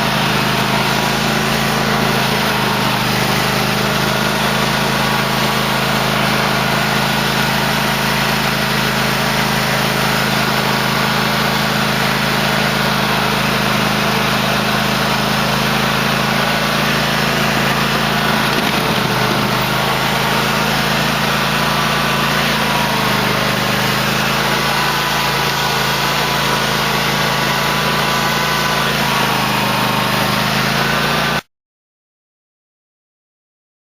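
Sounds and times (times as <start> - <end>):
lawn tractor engine running: 0.0 - 31.4.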